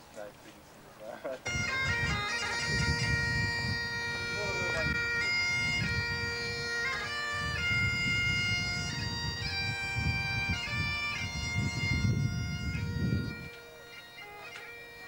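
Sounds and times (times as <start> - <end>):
bagpipes playing: 1.3 - 15.0.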